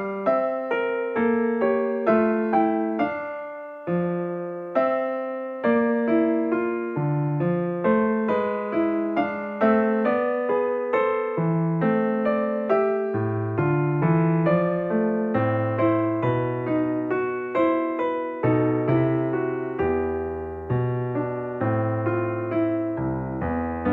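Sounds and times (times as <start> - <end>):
electric piano melody: 0.0 - 23.9.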